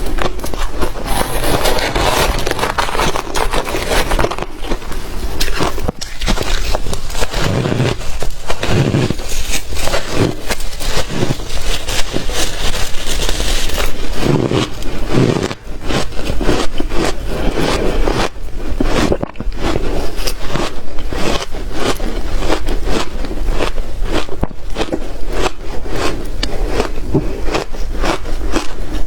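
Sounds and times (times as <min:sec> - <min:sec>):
crunching of ice being chewed: 0:00.0 - 0:29.0.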